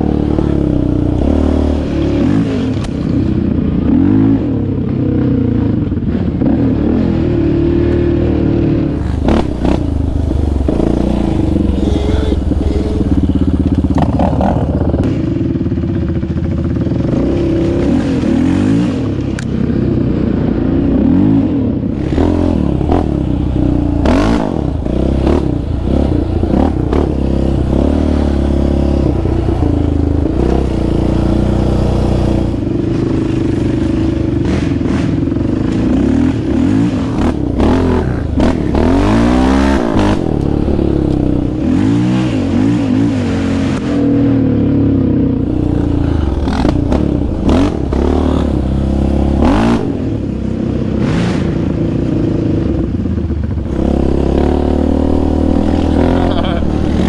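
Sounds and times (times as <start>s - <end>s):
quad engine revving: 0.0s - 4.6s, 5.2s - 15.6s, 20.7s - 52.1s, 52.7s - 57.0s.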